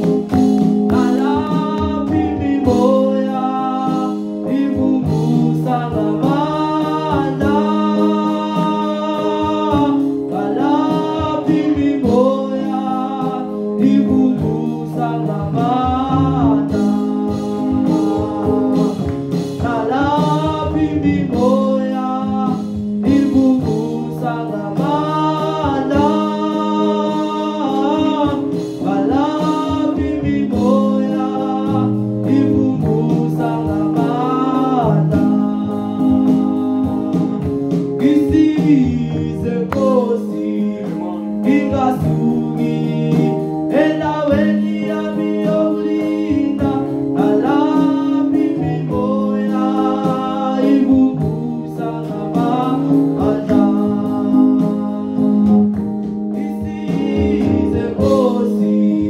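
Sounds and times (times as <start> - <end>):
electronic keyboard accompaniment: 0.0 - 59.0
man singing gospel song: 0.0 - 59.0.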